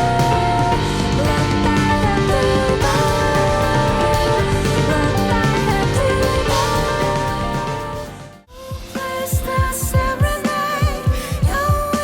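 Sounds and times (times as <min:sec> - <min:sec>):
drums: 0:00.0 - 0:12.0
instrumental band music: 0:00.0 - 0:12.0
sliding melodic lead line: 0:00.0 - 0:12.0.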